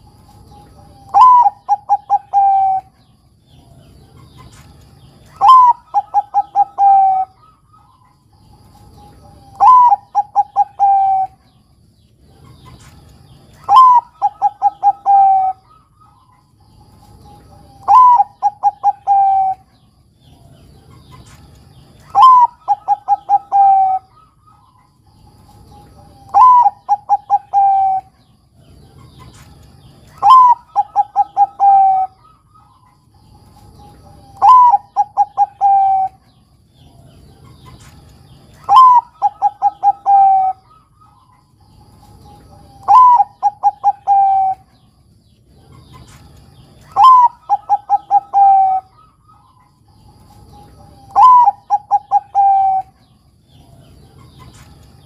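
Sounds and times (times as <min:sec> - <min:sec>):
dove cooing: 0:00.0 - 0:11.6, 0:12.2 - 0:55.0.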